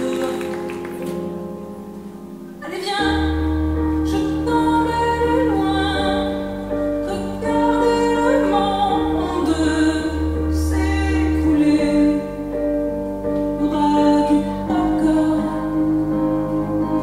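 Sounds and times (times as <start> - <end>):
woman singing slow melody: 0.0 - 1.2, 2.5 - 17.0.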